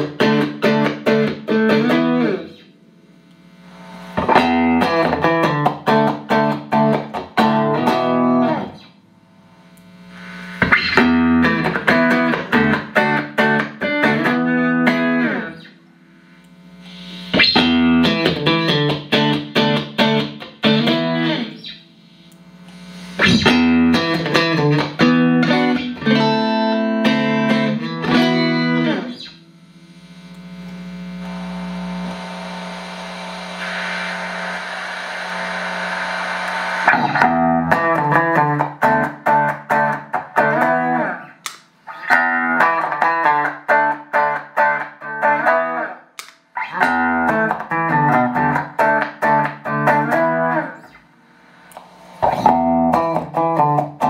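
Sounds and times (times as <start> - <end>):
amp hum with hiss: 0.0 - 54.0
clean electric guitar: 0.0 - 54.0.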